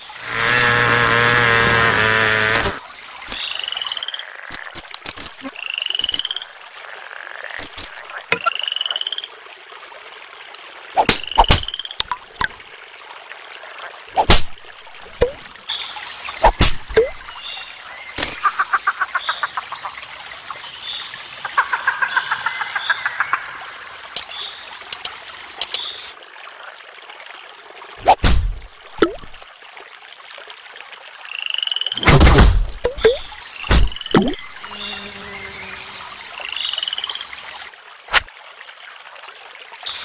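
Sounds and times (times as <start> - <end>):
nature ambience hiss: 0.0 - 40.0.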